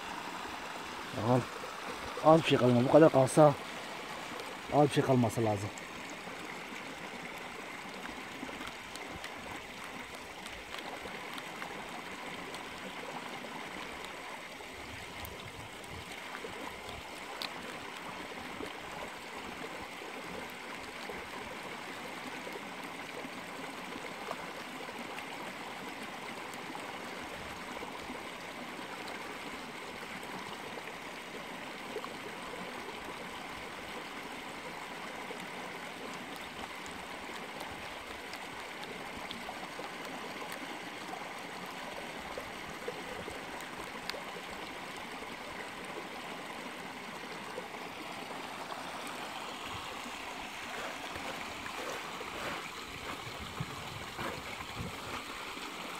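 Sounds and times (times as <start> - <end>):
creek water running: 0.0 - 55.9.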